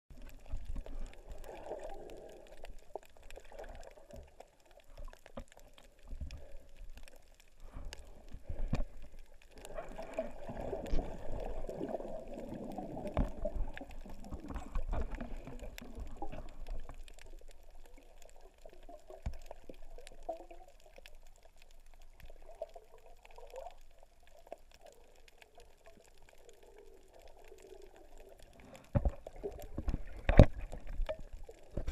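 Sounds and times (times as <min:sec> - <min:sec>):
muffled underwater sloshing: 0:00.1 - 0:31.9.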